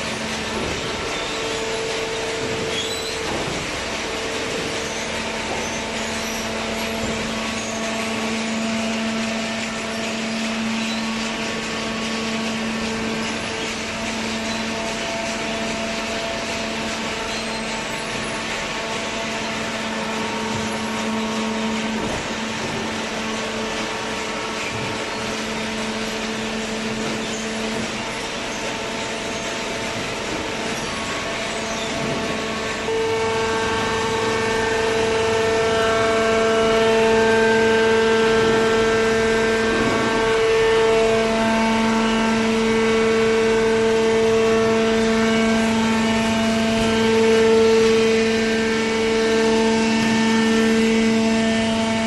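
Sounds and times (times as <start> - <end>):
baling machinery humming: 0.0 - 52.0.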